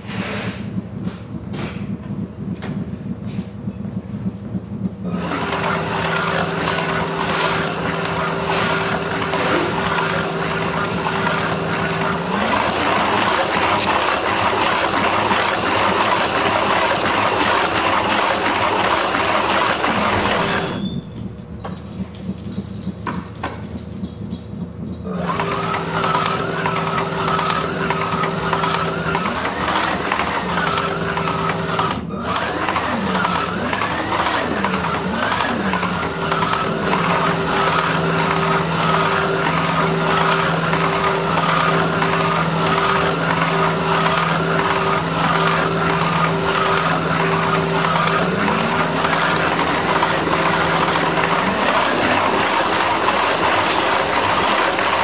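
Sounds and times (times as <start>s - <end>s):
slot car motor drone: 0.0s - 23.2s, 24.8s - 55.0s.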